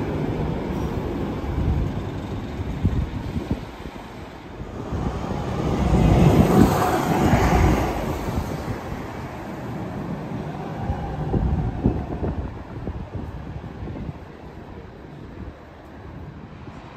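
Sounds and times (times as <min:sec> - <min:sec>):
bus driving past: 0:00.0 - 0:16.9.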